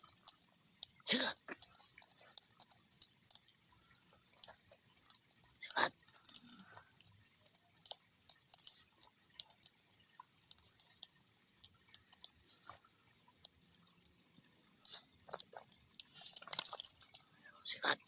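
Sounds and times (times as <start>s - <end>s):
faint clicks and crackles: 0.0s - 17.6s
high-pitched insect chorus: 0.0s - 18.0s.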